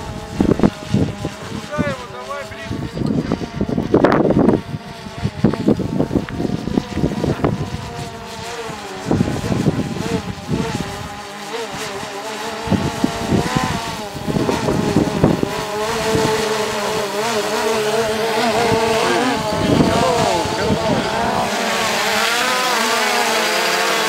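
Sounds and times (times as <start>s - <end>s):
wind buffeting microphone: 0.0s - 23.3s
drone rotors whining: 0.0s - 24.0s.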